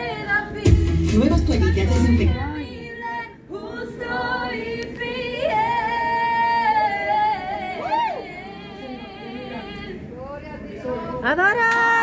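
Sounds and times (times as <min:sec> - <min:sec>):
woman singing with vibrato: 0:02.0 - 0:12.0.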